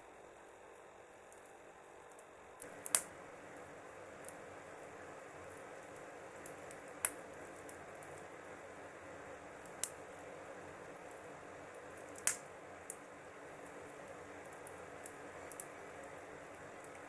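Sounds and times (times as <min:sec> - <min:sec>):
wood fire crackling: 0:00.0 - 0:17.0
burning wood popping: 0:00.7 - 0:17.0.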